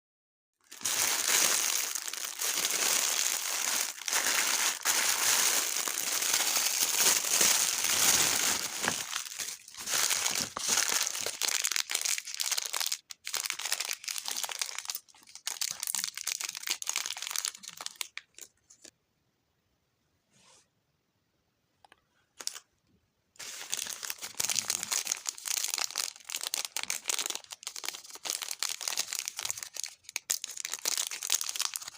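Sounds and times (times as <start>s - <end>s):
packaging crinkling: 0.6s - 18.9s, 23.4s - 31.9s.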